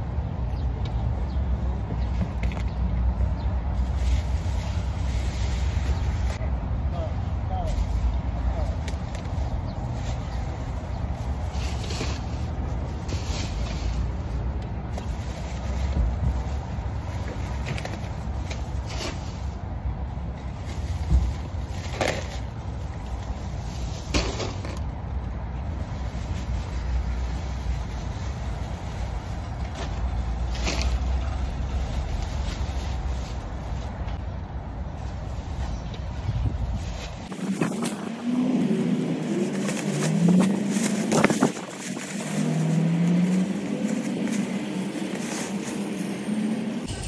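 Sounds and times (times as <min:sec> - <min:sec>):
low outdoor rumble: 0:00.0 - 0:47.0
plastic bags rustling: 0:03.7 - 0:06.4, 0:07.6 - 0:47.0.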